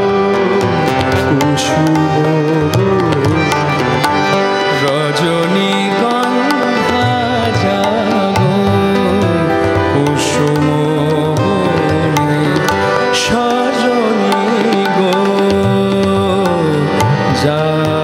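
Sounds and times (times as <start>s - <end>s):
harmonium: 0.0s - 18.0s
tabla strokes: 0.0s - 18.0s
tanpura drone: 0.0s - 18.0s
two men singing: 0.0s - 18.0s.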